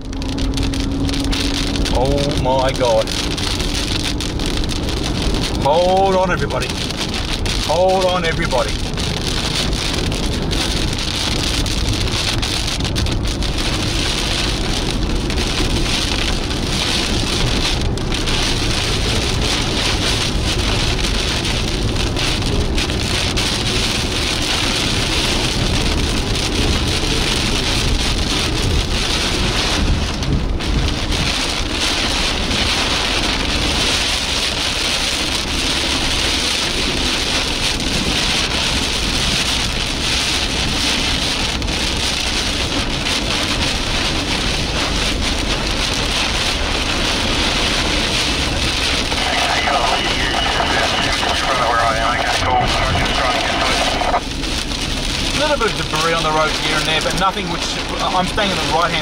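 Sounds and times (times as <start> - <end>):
heavy rain on a car roof: 0.0 - 59.0
low rumble: 0.0 - 59.0.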